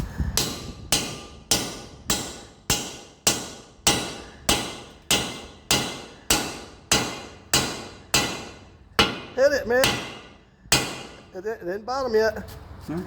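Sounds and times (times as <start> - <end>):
hammer striking metal stud: 0.4 - 11.3.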